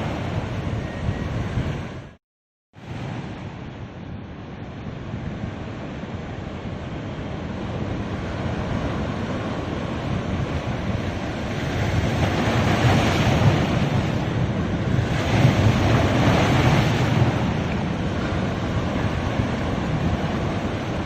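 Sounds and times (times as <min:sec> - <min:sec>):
ocean surf breaking on a beach: 0:00.0 - 0:02.2, 0:02.8 - 0:21.0.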